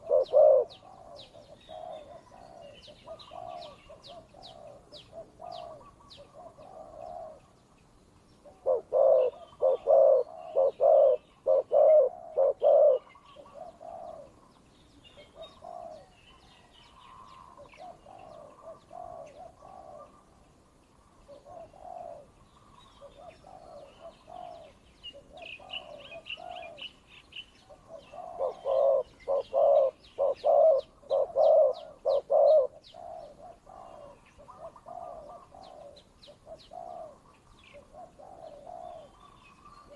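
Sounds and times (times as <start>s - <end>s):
doves cooing: 0.0s - 7.5s, 8.4s - 20.4s, 21.0s - 27.0s, 27.6s - 39.9s
small birds chirping: 0.0s - 39.9s.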